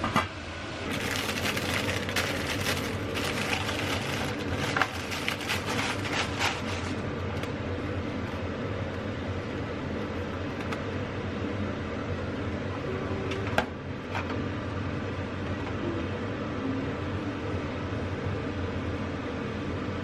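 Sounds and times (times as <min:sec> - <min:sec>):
machine whir with faint hum: 0:00.0 - 0:20.0.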